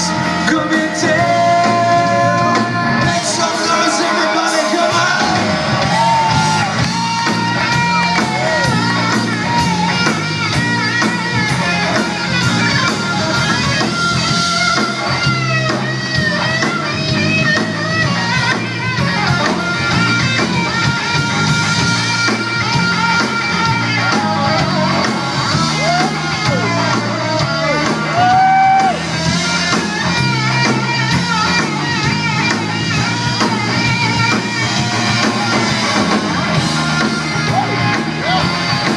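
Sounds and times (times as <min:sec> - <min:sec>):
bass: 0:00.0 - 0:38.9
drum kit: 0:00.0 - 0:38.9
electric guitar lead with bends: 0:00.0 - 0:38.9.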